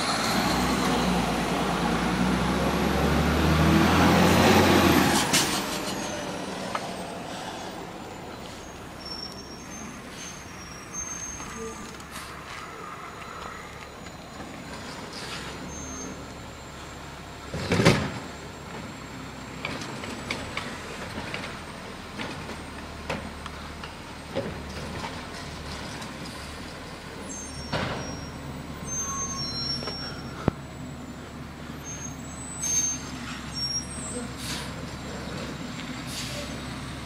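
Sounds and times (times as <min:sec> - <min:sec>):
garbage truck diesel engine: 0:00.0 - 0:37.0.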